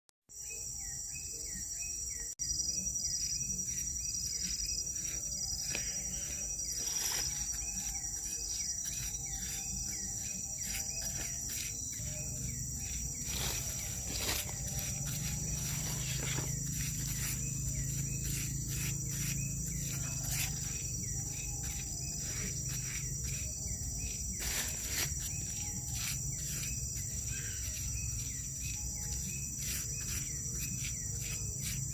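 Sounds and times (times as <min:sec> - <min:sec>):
crickets trilling: 0:00.3 - 0:31.9.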